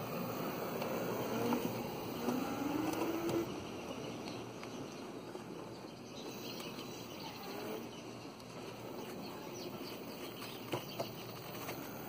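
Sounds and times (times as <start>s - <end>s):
wheels rolling over concrete: 0.0s - 12.0s.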